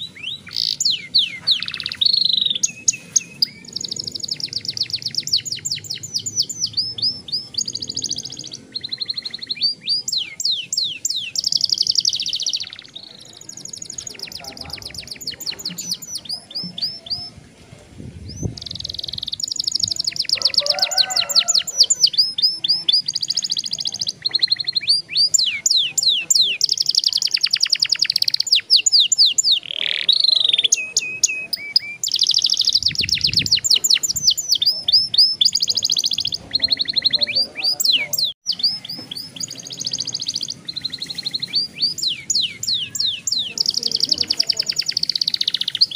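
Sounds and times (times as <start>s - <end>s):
canary singing trills: 0.0s - 17.4s, 18.2s - 45.9s.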